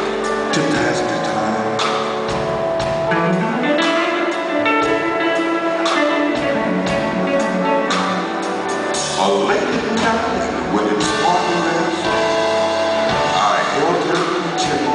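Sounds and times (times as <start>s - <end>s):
electric guitar melody: 0.0s - 14.9s
keyboard chords: 0.0s - 14.9s.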